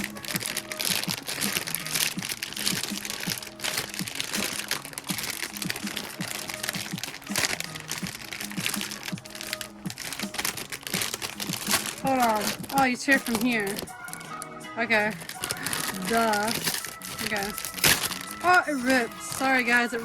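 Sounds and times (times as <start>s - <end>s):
plastic bag crinkling: 0.0s - 20.0s
soft background music: 0.0s - 20.0s.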